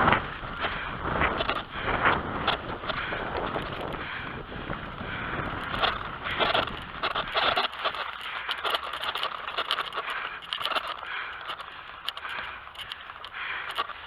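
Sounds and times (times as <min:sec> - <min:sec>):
bike tyres crunching over dirt: 0:00.0 - 0:14.0
wind rumbling on microphone: 0:00.0 - 0:14.0.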